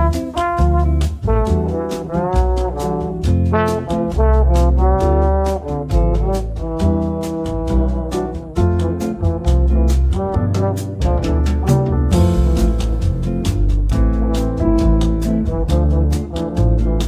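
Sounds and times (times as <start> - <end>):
steady drum beat: 0.0 - 17.0
upbeat jazzy tune with brass: 0.0 - 17.0.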